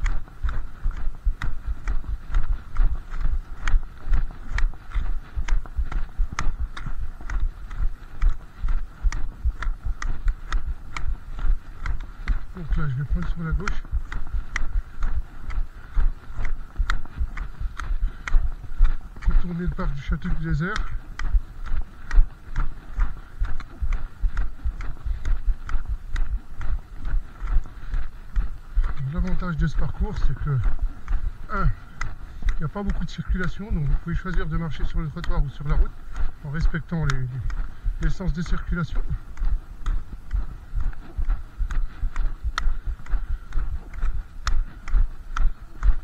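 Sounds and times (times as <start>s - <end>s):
dull footstep thuds: 0.0s - 46.0s
walking pole tips clicking on ice: 0.0s - 46.0s.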